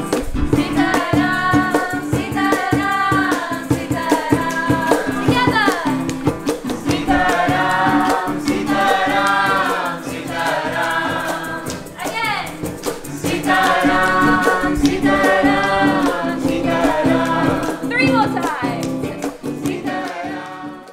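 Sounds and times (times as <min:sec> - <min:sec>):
hand percussion ticking: 0:00.0 - 0:20.9
group singing a mantra: 0:00.5 - 0:11.9, 0:13.1 - 0:17.9, 0:19.5 - 0:20.9.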